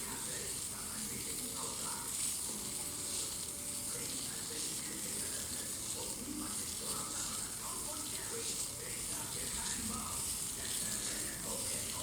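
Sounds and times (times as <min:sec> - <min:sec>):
sandpaper scratching hiss: 0:00.0 - 0:12.0.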